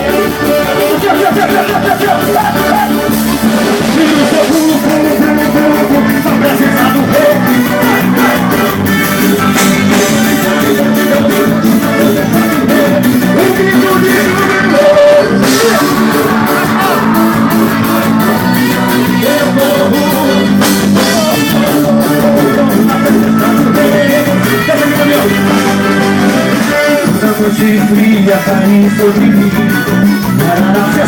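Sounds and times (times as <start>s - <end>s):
guitar: 0.0s - 31.0s
live band playing: 0.0s - 31.0s
person singing: 0.0s - 31.0s
steady drum beat: 0.0s - 31.0s.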